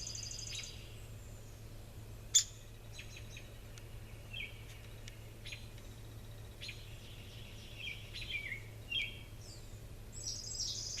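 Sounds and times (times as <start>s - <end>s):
high bird trill: 0.0s - 1.5s, 2.3s - 4.7s, 5.4s - 11.0s
small birds chirping: 0.0s - 11.0s
steady low hum: 0.0s - 11.0s.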